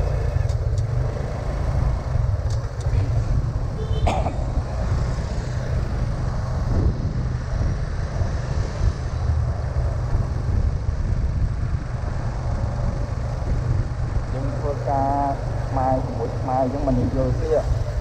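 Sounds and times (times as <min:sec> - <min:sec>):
vehicle noise: 0:00.0 - 0:18.0
wind rumble on microphone: 0:00.0 - 0:18.0.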